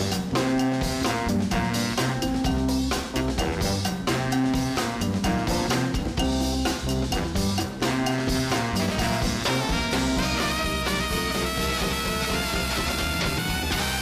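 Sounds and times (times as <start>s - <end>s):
swing band music: 0.0s - 14.0s.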